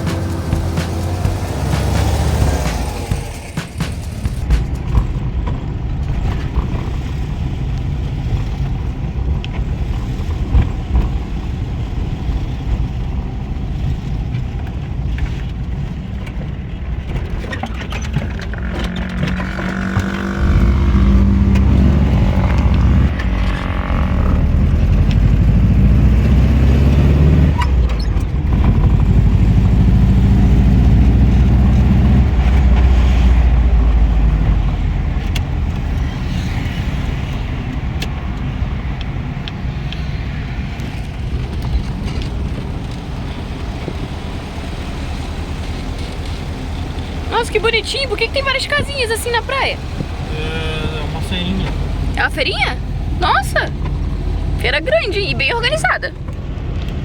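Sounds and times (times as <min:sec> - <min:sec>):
van engine rumbling: 0:00.0 - 0:57.0.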